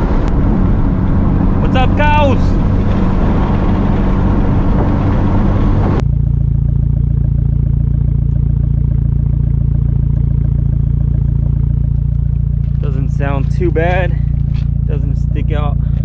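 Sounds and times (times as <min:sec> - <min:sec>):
car engine and road noise: 0:00.0 - 0:16.0
low exhaust drone: 0:00.0 - 0:16.0.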